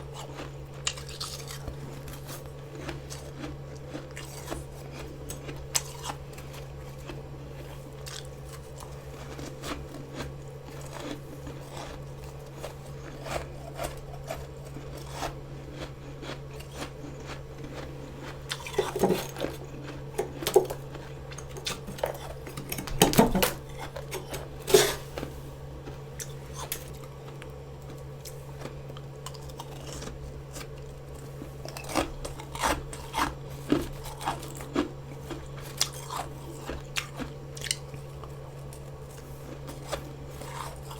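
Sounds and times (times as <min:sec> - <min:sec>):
person chewing frost: 0:00.0 - 0:40.9.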